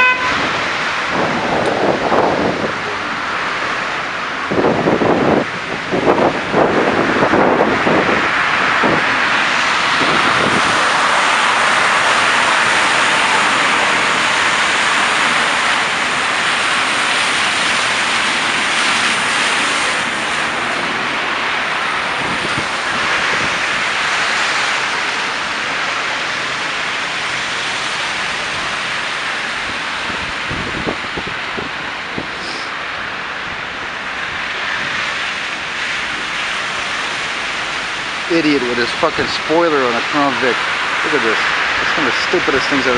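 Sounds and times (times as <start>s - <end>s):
rush of passing traffic: 0.0s - 42.9s.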